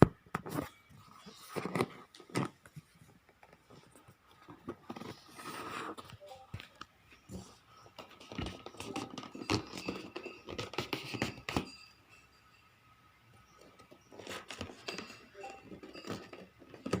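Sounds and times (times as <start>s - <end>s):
keyboard and packaging handled: 0.4s - 11.9s, 13.4s - 17.0s.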